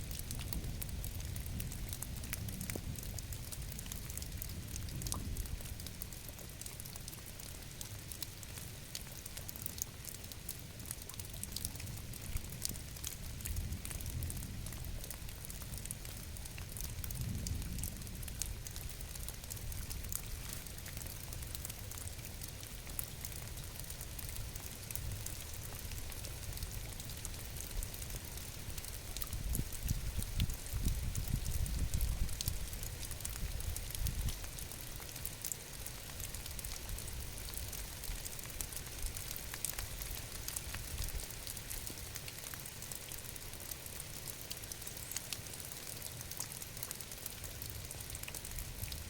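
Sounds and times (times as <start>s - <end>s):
rain: 0.0s - 49.0s.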